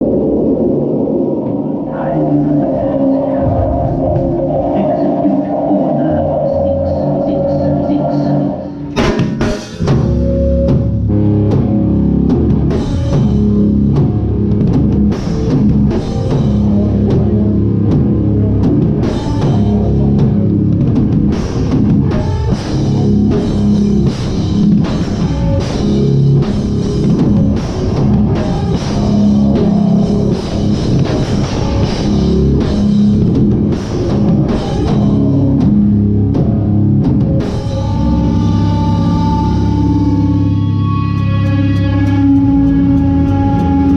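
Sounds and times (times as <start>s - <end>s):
heavy electric guitar: 0.0s - 43.9s
drum kit and cymbals: 8.6s - 43.9s.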